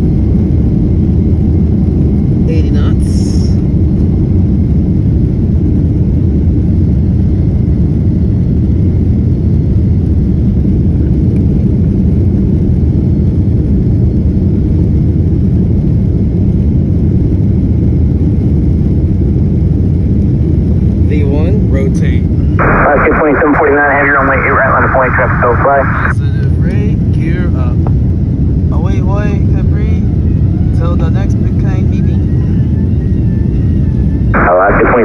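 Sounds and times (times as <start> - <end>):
jet engines roaring: 0.0 - 35.0
wheels rumbling on runway: 3.4 - 35.0.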